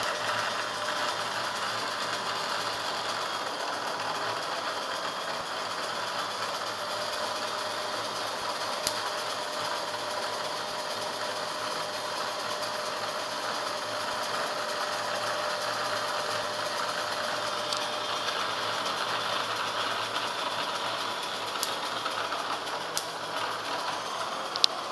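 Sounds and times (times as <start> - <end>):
mechanical whirring with hum: 0.0 - 24.9.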